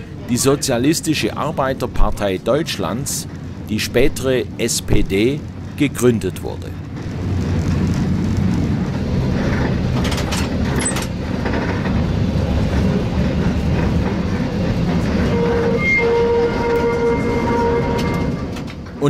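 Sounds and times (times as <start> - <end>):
tram rumble on rails: 0.0 - 19.0
wheels clacking over track: 3.2 - 19.0.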